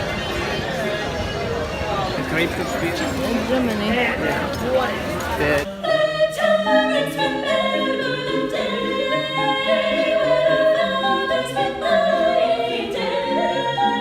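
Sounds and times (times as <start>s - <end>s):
choir singing in harmony: 2.2s - 14.0s.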